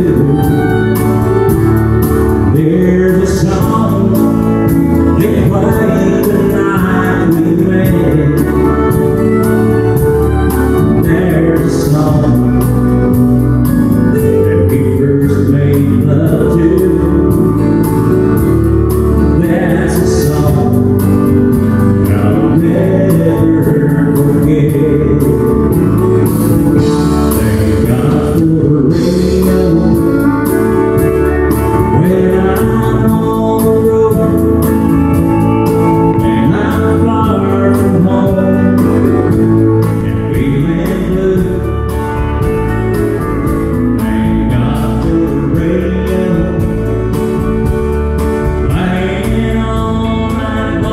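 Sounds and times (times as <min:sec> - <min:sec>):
acoustic guitar: 0:00.0 - 0:50.9
drums: 0:00.0 - 0:50.9
man singing: 0:00.0 - 0:50.9.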